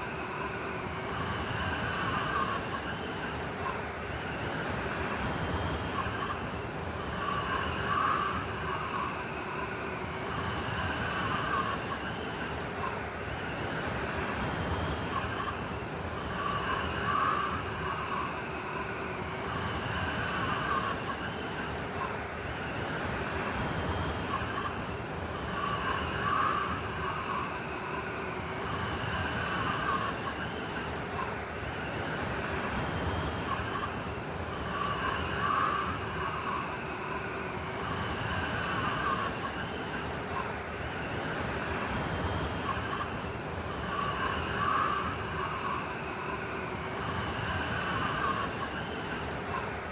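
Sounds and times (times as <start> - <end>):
blizzard wind whistling: 0.0 - 49.9.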